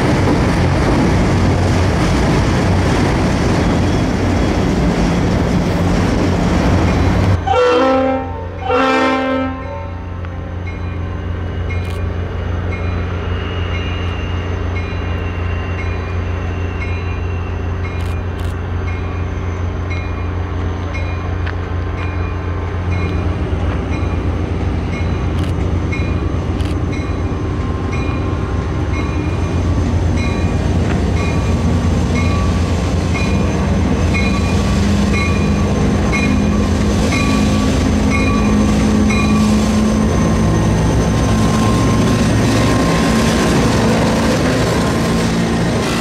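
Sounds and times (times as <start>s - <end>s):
diesel locomotive engines droning: 0.0s - 46.0s.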